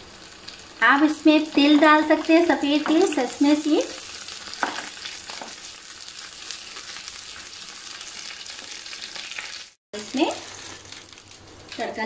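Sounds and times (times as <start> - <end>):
ghee sizzling with crackles: 0.0 - 12.0.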